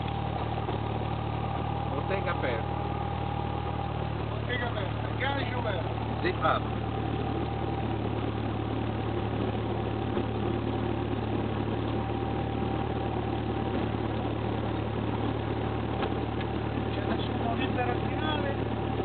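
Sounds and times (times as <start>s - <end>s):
airplane engine and propeller running: 0.0s - 19.0s.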